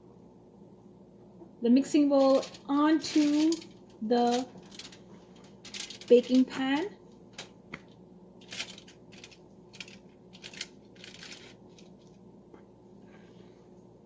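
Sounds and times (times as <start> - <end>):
soft dough rustles: 1.6 - 14.0.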